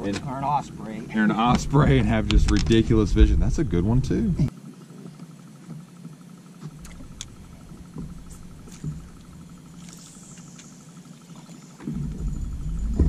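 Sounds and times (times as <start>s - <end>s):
faint low hum: 0.0s - 5.8s, 6.5s - 13.0s.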